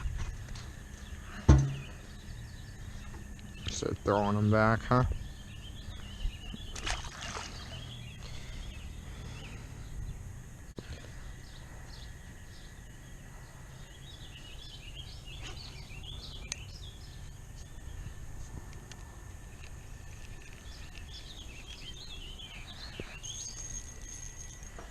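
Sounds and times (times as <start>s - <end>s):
low outdoor rumble: 0.0s - 23.0s
small birds chirping: 0.0s - 24.9s.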